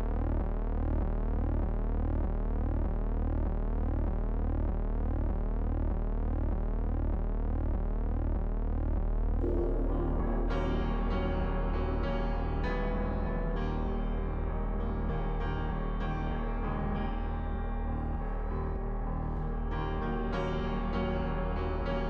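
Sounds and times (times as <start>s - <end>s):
low synthesized drone: 0.0s - 21.9s.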